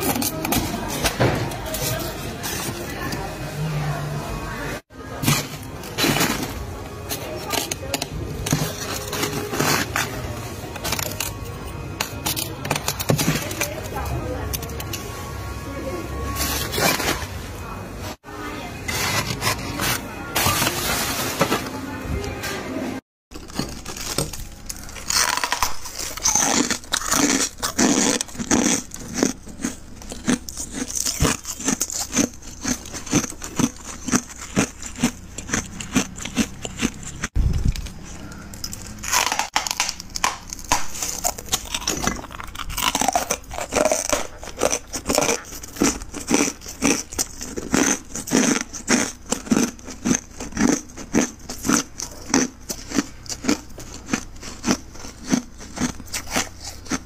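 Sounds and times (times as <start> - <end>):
freezer frost being scraped: 0.0 - 3.1, 5.0 - 14.1, 16.3 - 17.3, 18.8 - 21.8, 23.4 - 37.2, 40.5 - 57.0.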